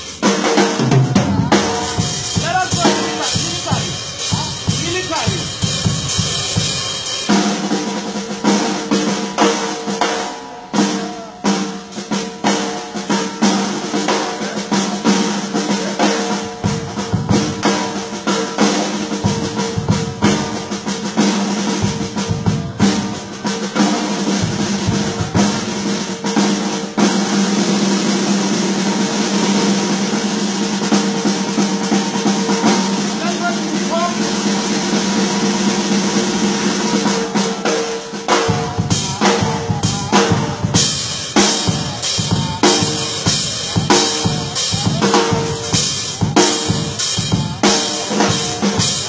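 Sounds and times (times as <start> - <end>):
drum kit groove with fills: 0.0 - 49.0.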